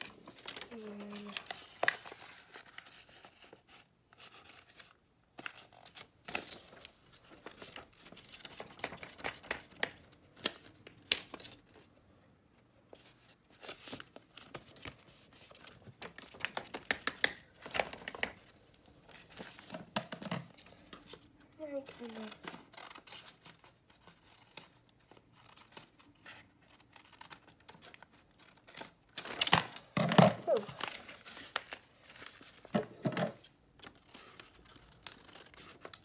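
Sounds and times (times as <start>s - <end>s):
paper rustling and crinkling: 0.0s - 12.0s, 12.9s - 36.0s.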